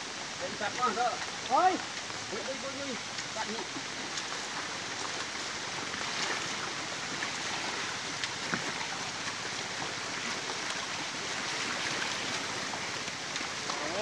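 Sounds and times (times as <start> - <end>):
steady rain hiss: 0.0 - 14.0
water drips ticking: 0.0 - 14.0.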